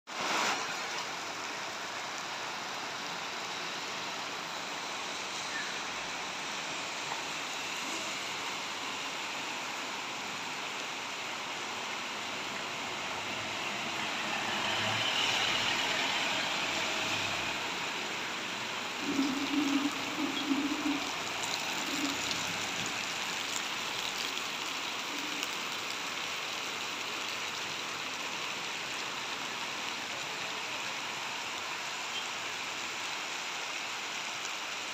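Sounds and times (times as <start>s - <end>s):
steady rain falling: 0.1s - 34.9s
tyres hissing on wet road: 0.1s - 34.9s.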